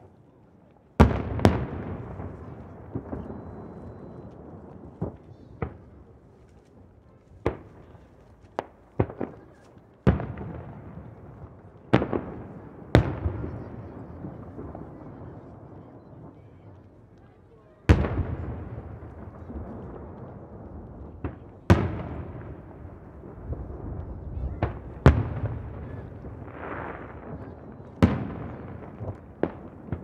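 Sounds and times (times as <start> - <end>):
firework shells booming with echo: 1.0 - 6.0, 8.6 - 16.3, 17.9 - 30.0.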